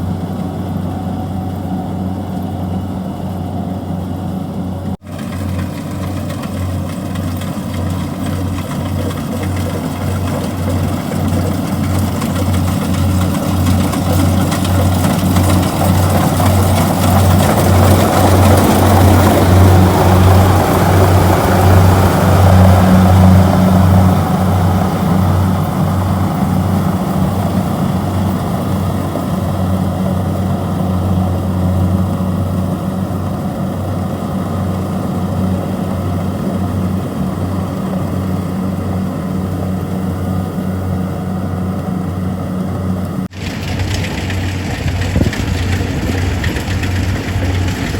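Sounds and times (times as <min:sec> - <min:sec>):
diesel engine pulsing hum: 0:00.0 - 0:47.9.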